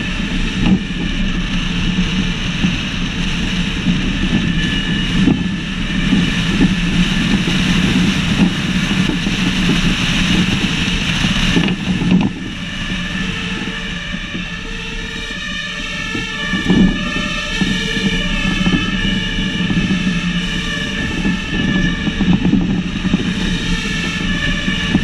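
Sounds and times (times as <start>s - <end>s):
diesel engine and tyres running: 0.0s - 25.0s
wind rushing over camera: 0.0s - 25.0s.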